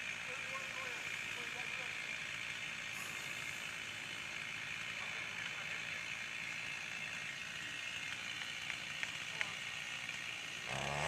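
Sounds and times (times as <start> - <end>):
faint chainsaw running: 0.0 - 11.0.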